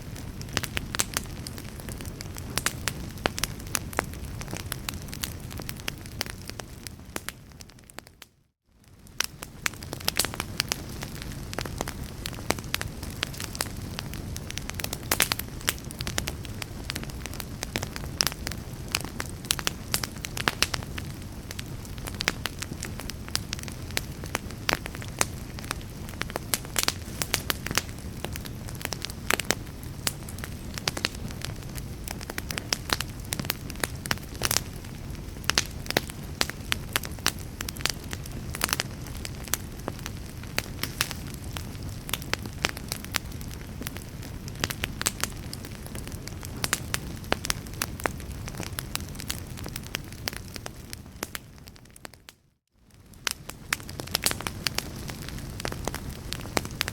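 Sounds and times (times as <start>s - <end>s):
fireplace fire crackling: 0.0s - 56.9s.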